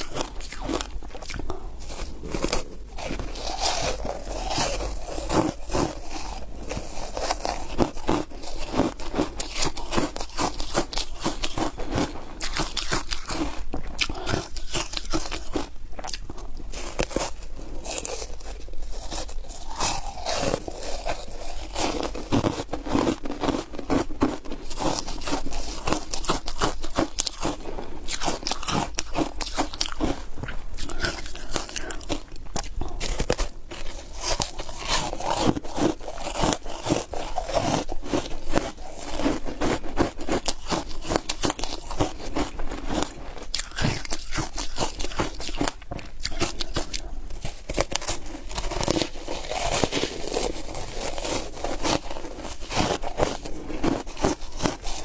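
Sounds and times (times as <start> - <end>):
crunchy ice chewing: 0.0 - 55.0.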